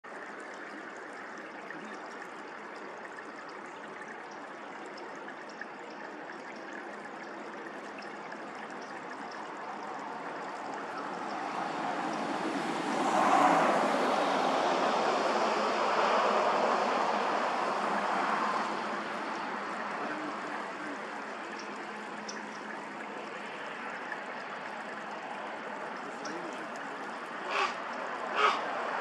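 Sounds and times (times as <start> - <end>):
steady rushing outdoor noise: 5.0 - 29.0.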